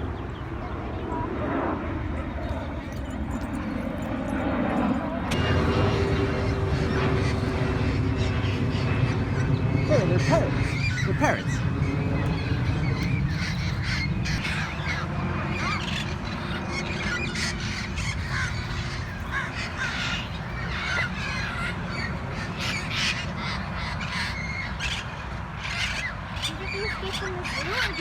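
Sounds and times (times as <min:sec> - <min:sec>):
steady low rumble: 0:00.0 - 0:25.3
parrots squawking: 0:05.3 - 0:28.0.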